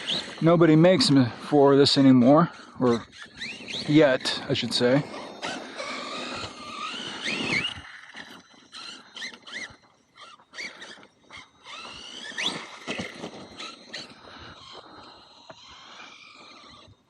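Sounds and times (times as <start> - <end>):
rc truck motor whine: 0.0 - 17.0.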